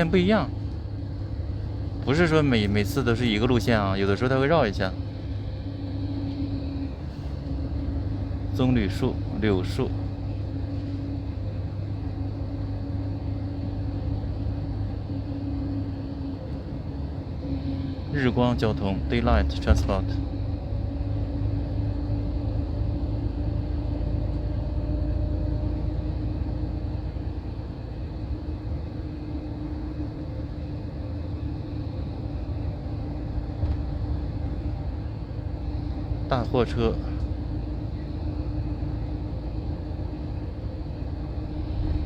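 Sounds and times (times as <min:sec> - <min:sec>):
bus engine and road noise: 0:00.0 - 0:42.0
faint steady hum: 0:00.0 - 0:42.0.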